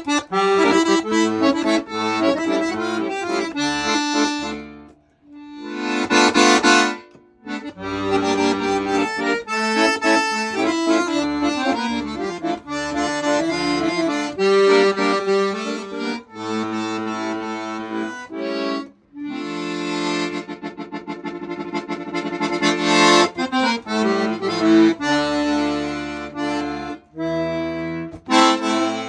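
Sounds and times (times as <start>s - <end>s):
piano accordion playing a tune: 0.0s - 29.0s.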